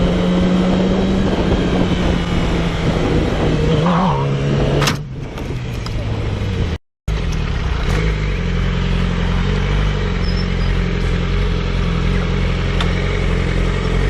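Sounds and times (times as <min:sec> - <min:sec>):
road and wind noise: 0:00.0 - 0:14.0.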